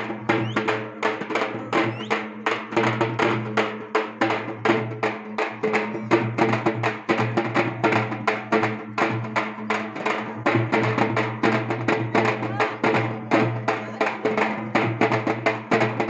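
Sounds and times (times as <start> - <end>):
frame drums beating: 0.0 - 16.0.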